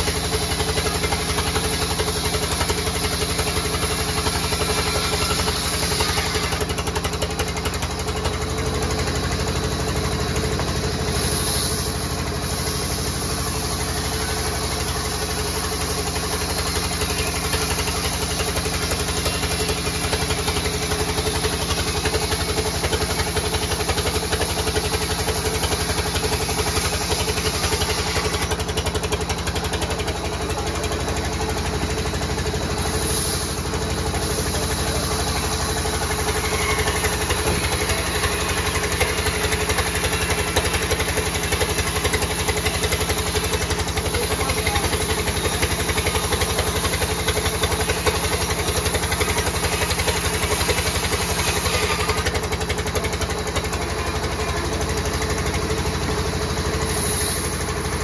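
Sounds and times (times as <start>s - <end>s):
band saw cutting timber: 0.0s - 58.0s.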